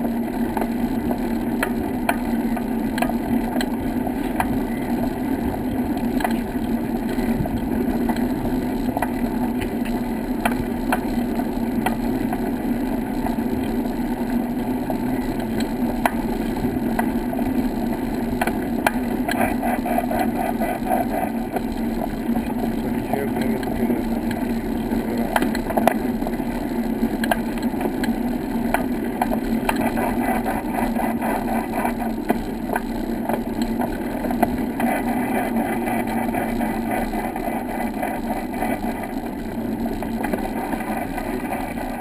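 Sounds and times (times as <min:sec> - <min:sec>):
camera rumbling on brick path: 0:00.0 - 0:42.0
sharp clicks and rattles: 0:00.0 - 0:42.0.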